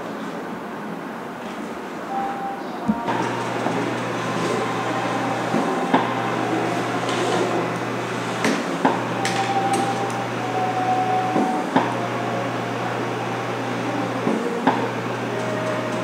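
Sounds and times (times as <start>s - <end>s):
massage chair motor hum: 2.9s - 16.0s.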